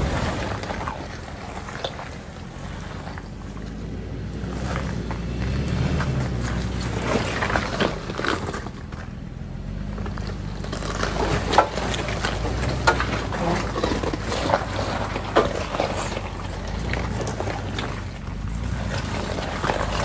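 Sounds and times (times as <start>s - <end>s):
suv engine running at low revs: 0.0s - 20.0s.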